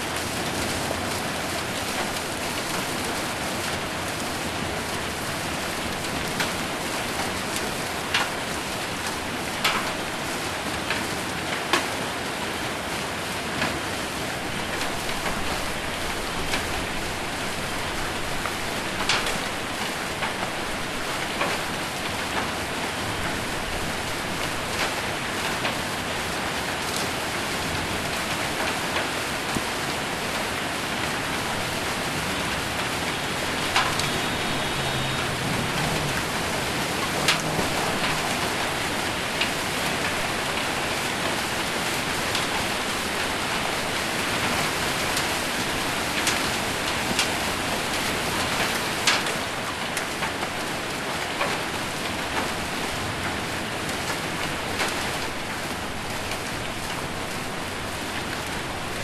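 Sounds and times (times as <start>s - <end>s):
heavy rain on a metal roof: 0.0s - 59.0s
hailstones striking metal roof: 0.1s - 12.0s, 13.4s - 59.0s.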